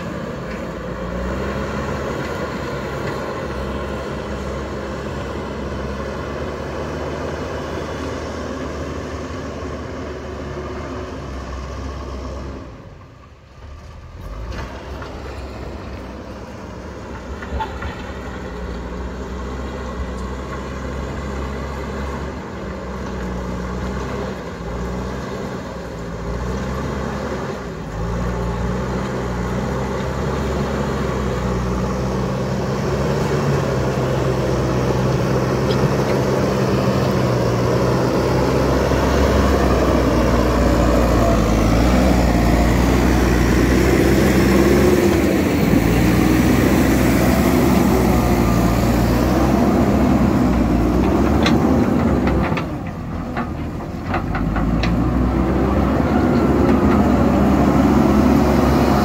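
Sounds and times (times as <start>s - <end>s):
backhoe diesel engine working hard: 0.0s - 59.0s.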